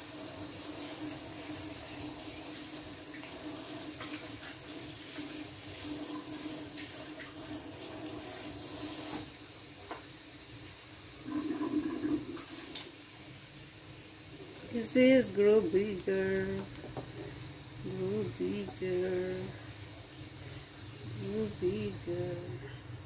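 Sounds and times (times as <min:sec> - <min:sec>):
dough balls deep-frying in oil: 0:00.0 - 0:23.0.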